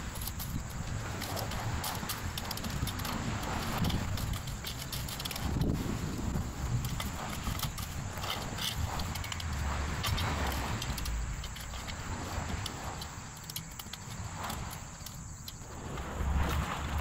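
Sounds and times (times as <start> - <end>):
metal rake scraping soil and stones: 0.0 - 17.0.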